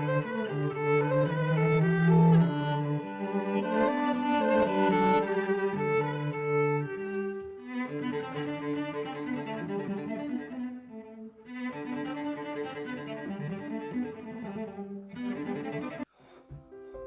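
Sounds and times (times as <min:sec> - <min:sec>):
cello and violin piece: 0:00.0 - 0:17.0.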